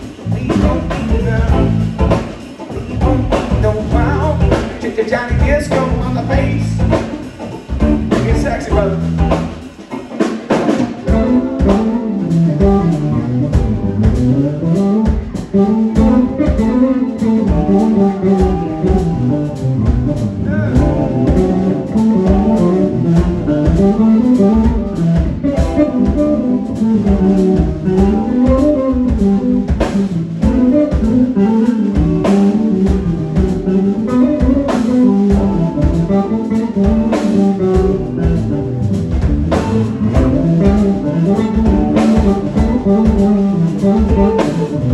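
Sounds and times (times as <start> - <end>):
drum kit: 0.0 - 44.9
electric bass solo: 0.0 - 44.9.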